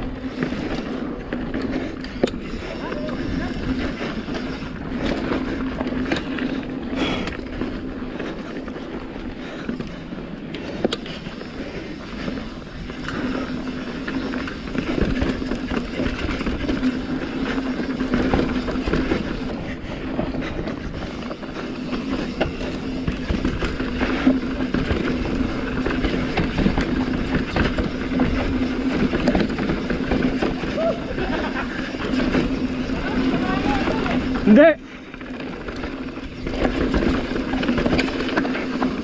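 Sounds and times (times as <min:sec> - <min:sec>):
bike rattling over bumps: 0:00.0 - 0:39.0
bike tyres rolling over dirt: 0:00.0 - 0:39.0.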